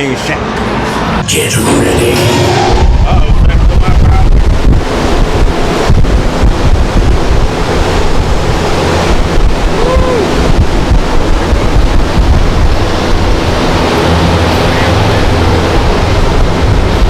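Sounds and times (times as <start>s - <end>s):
strong fan-driven wind: 0.0s - 17.0s.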